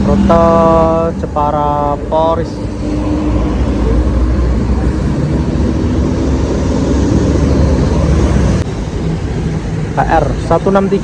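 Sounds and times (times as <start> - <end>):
bus passing with heavy rumble: 0.0 - 11.0.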